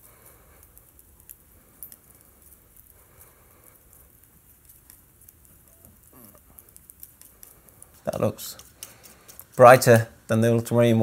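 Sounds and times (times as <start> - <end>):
paint mixing taps and scrapes: 0.0 - 11.0.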